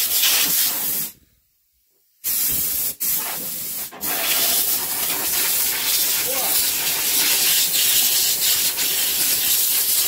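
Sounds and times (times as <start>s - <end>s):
compressed air blow gun hissing: 0.0s - 1.2s, 2.2s - 10.0s.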